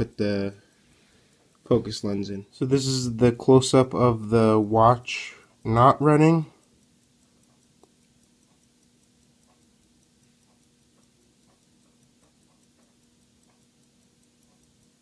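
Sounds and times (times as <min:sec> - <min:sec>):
faint ticking: 0:00.0 - 0:15.0
low steady hum: 0:00.0 - 0:15.0.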